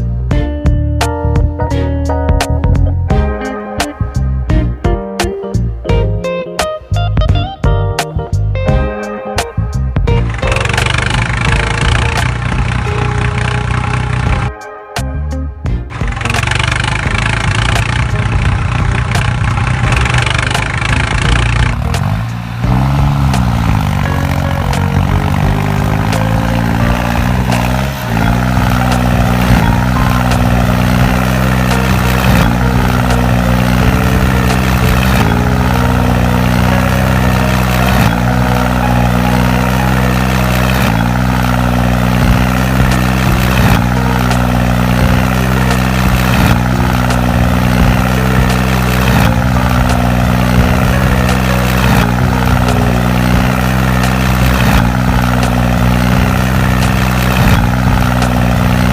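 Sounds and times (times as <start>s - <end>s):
model tractor engine humming: 10.2s - 14.5s, 15.9s - 58.9s.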